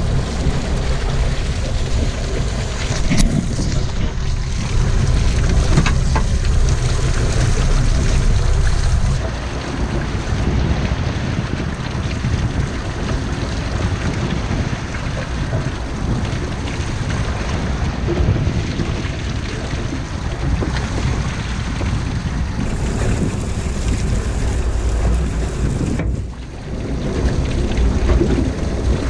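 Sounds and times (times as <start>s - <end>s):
choppy sea against hull: 0.0s - 29.0s
wind buffeting microphone: 0.0s - 29.0s.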